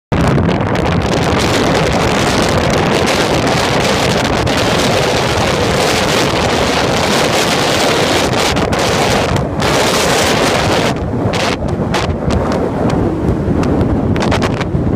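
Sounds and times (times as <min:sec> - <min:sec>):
rough heavy seas: 0:00.1 - 0:14.9
storm wind buffeting microphone: 0:00.1 - 0:14.9.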